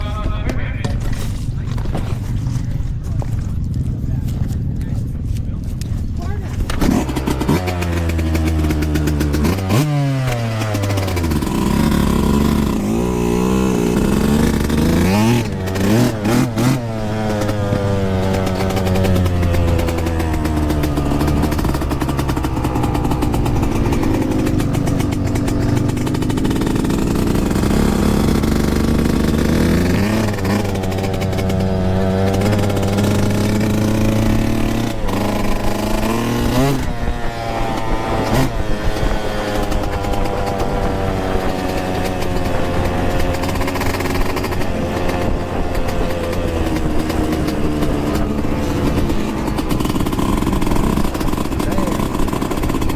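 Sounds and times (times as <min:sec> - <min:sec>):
two-stroke motocross bike revving: 0:00.0 - 0:52.9.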